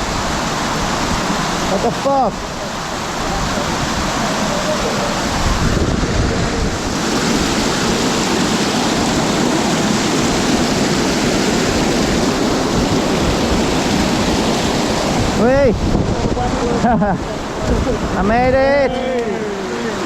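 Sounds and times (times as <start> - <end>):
mountain stream rushing: 0.0 - 20.0
wind buffeting microphone: 2.4 - 20.0.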